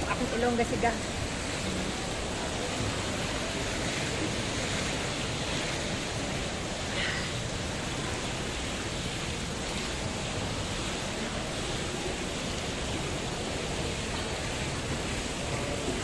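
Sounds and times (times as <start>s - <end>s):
hot tub jets churning water: 0.0s - 16.0s.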